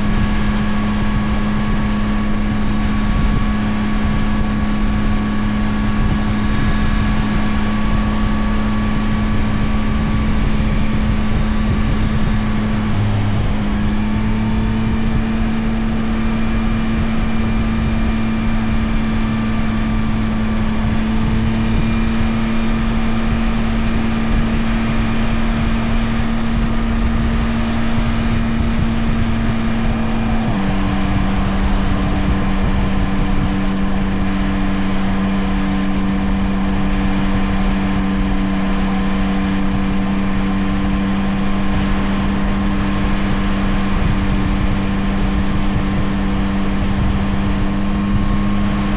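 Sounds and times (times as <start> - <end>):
motorcycle engine cruising: 0.0 - 48.9
wind and road noise: 0.0 - 48.9.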